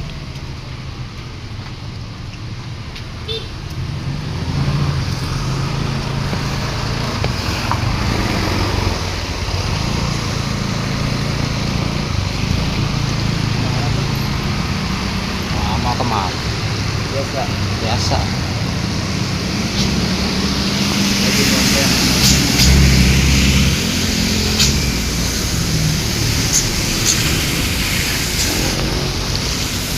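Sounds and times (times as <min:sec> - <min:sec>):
road and wind noise: 0:00.0 - 0:29.9
vehicle engine running: 0:04.8 - 0:29.9.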